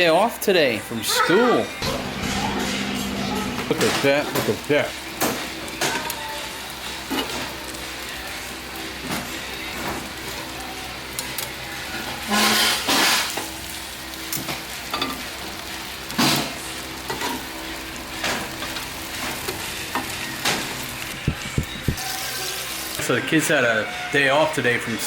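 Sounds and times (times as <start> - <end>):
chicken sizzling on a grill: 3.8 - 21.2, 21.8 - 25.0.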